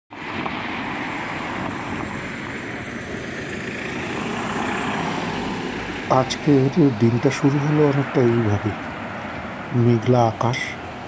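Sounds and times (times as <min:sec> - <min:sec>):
cars driving past: 0:00.1 - 0:11.0.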